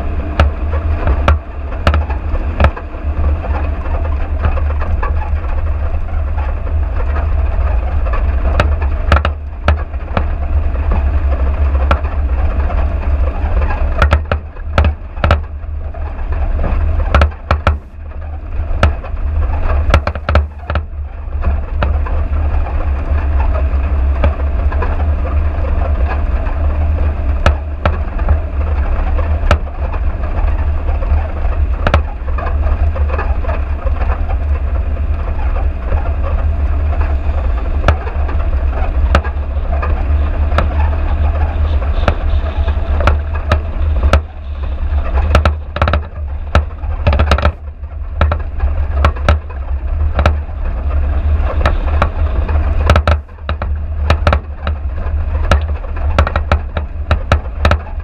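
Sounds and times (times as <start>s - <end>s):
knocks and rattles from bumps: 0.0s - 15.7s, 16.3s - 58.0s
car engine and road rumble: 0.0s - 58.0s.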